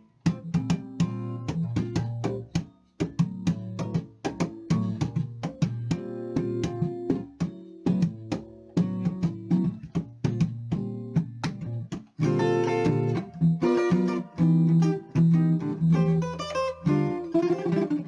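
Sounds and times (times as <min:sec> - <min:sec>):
plucked guitar notes: 0:00.0 - 0:18.0
strummed guitar chords: 0:00.0 - 0:18.0.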